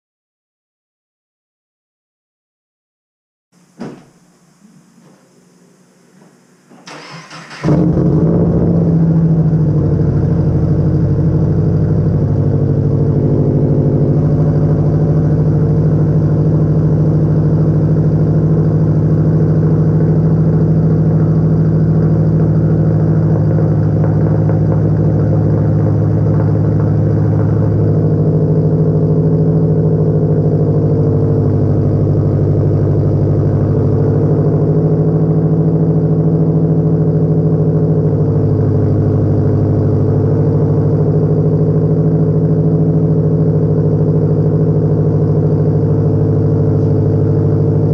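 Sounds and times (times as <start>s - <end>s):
car engine idling loudly: 6.9s - 47.9s.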